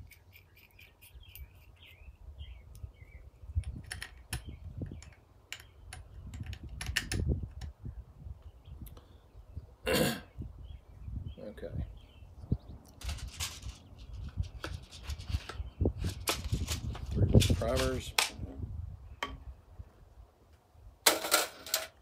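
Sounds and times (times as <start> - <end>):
birds chirping: 0.0 - 19.6.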